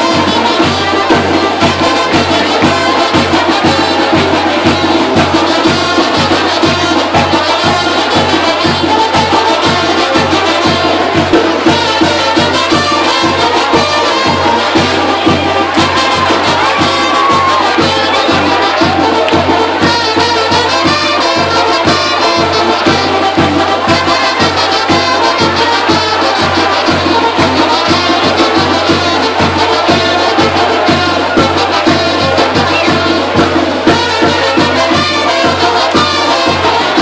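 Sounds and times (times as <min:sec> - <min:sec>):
brass band playing dance tune: 0:00.0 - 0:37.0.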